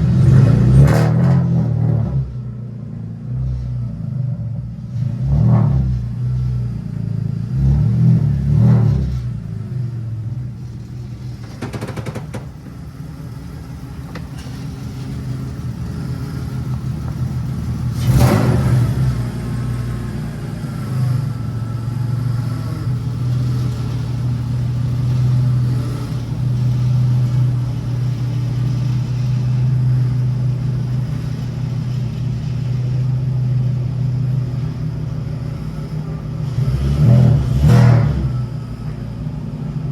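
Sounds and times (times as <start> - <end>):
car engine idling: 2.3 - 37.5, 38.2 - 39.9.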